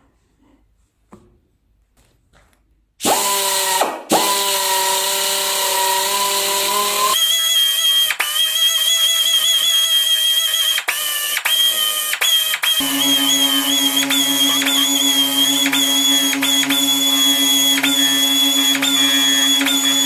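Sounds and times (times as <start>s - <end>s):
rotary power tool spinning: 3.0s - 20.0s.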